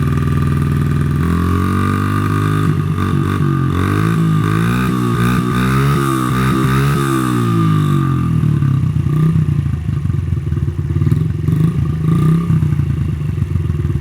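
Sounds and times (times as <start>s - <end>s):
small motorcycle engine idling: 0.0s - 14.0s.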